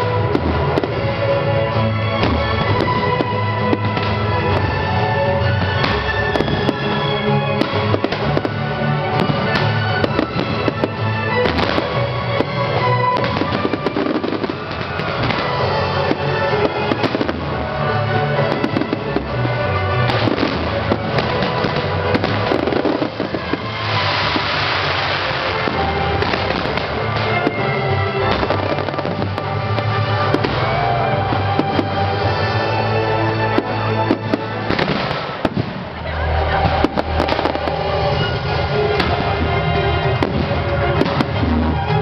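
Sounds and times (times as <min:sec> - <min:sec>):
fireworks bangs and pops: 0:00.0 - 0:42.0
music playing: 0:00.0 - 0:42.0.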